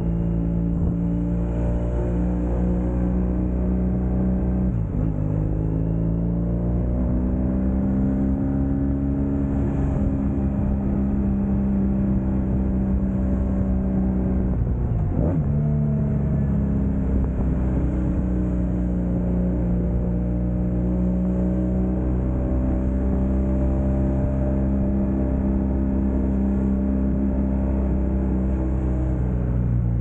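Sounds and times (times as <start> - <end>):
wind and road noise: 0.0 - 30.0.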